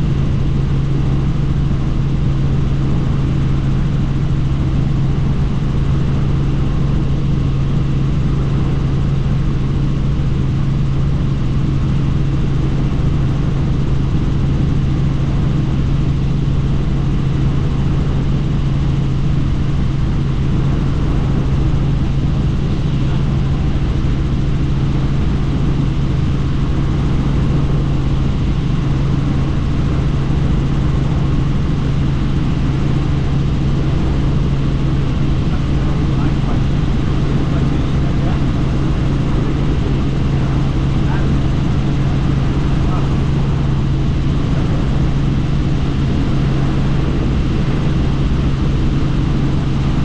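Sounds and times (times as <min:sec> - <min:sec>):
helicopter engine and rotors: 0:00.0 - 0:50.0.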